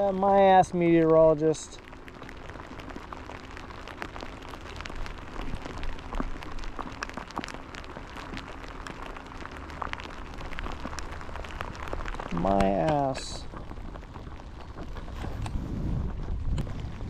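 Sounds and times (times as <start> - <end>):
raindrops ticking close by: 0.0 - 17.0
steady rain falling: 0.0 - 17.0.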